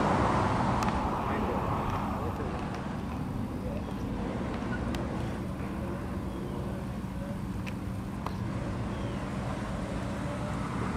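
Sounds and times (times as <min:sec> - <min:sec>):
car engine exhaust rumble: 0:00.0 - 0:10.9.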